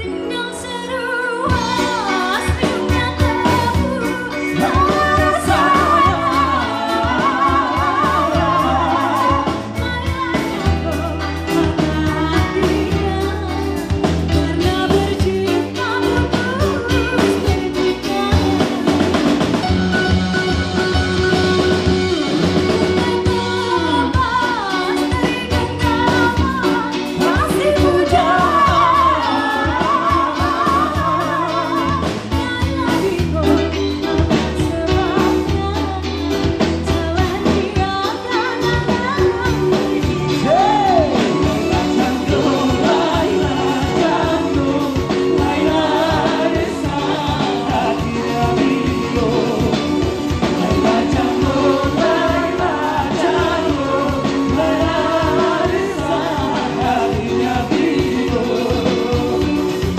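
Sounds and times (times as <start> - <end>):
drums and bass: 0.0 - 59.9
pop music with singer: 0.0 - 59.9.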